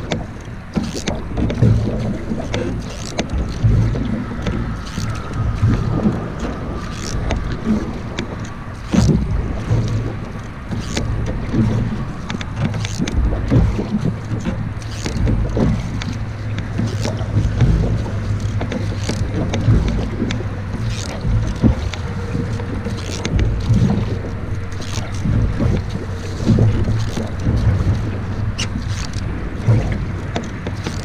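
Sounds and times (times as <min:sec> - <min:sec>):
paddle splashing in water: 0:00.0 - 0:31.0
wind rumble on microphone: 0:00.0 - 0:31.0.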